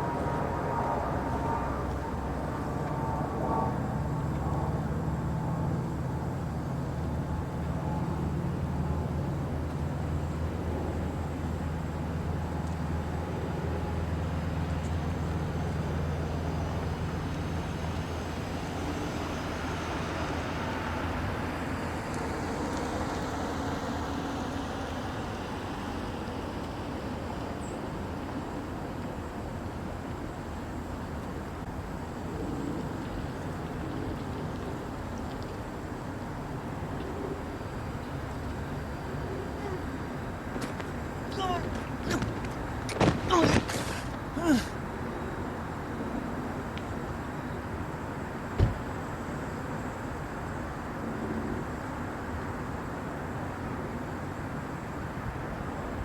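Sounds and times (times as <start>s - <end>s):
vehicle engine humming: 0.0s - 54.0s
road noise: 0.0s - 56.0s.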